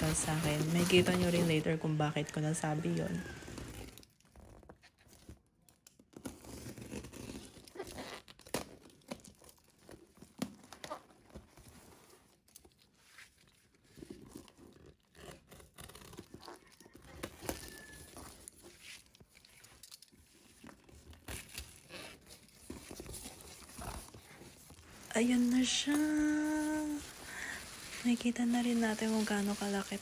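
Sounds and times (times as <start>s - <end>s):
tape and cardboard crinkling: 0.0s - 30.0s.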